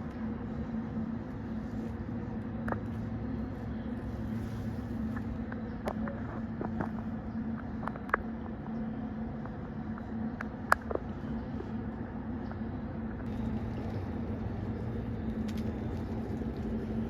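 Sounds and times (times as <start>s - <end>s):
engine-like hum: 0.0s - 17.0s.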